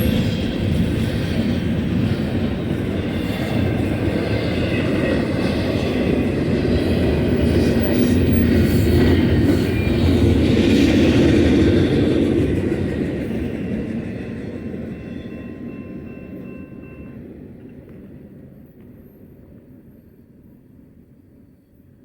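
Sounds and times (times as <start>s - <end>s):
freight train wheels rumbling: 0.0s - 21.2s.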